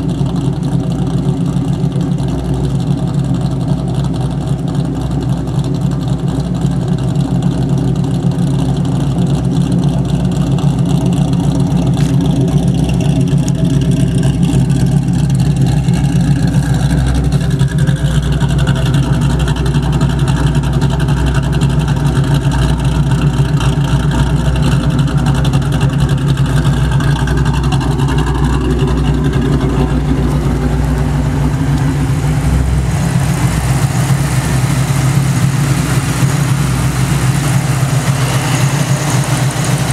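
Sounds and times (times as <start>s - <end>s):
car engine idling: 0.0s - 39.9s
engine tapping: 0.0s - 39.9s.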